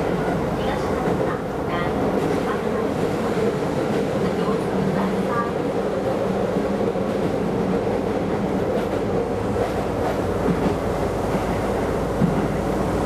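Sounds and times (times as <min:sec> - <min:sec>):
train hum: 0:00.0 - 0:13.0
train wheels rumbling on rail: 0:00.0 - 0:13.0.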